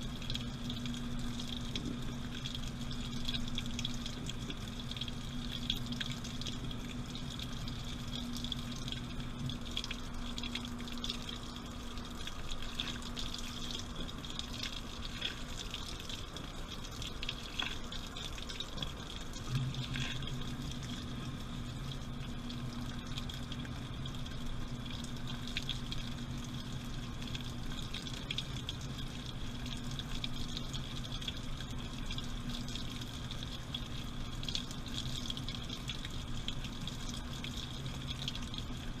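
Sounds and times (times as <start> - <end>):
washing machine humming: 0.0 - 39.0
water splashing in washing machine: 0.0 - 39.0.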